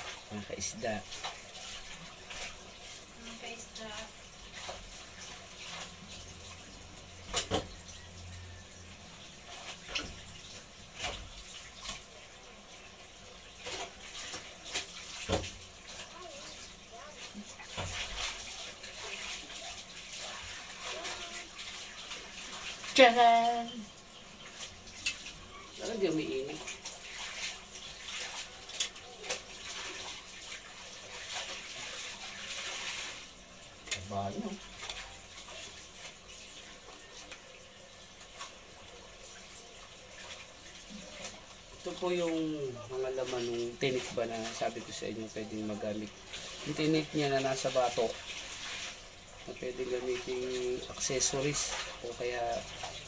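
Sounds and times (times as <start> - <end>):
fish frying in oil: 0.0 - 53.0
running water: 0.0 - 53.0
water splashing in a pail: 0.0 - 53.0.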